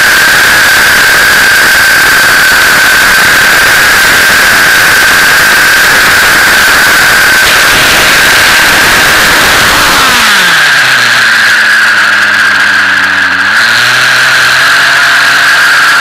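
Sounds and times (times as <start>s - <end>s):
high whine: 0.0s - 16.0s
model helicopter rotor noise: 0.0s - 16.0s.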